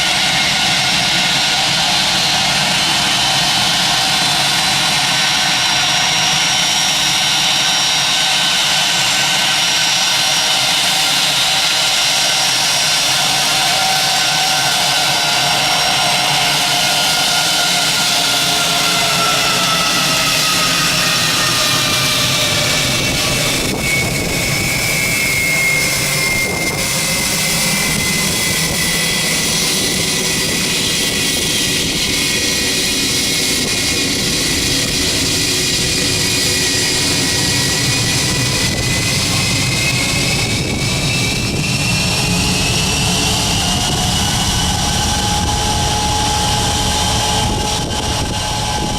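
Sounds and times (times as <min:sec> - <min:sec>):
jet engines roaring with whine: 0:00.0 - 0:48.9.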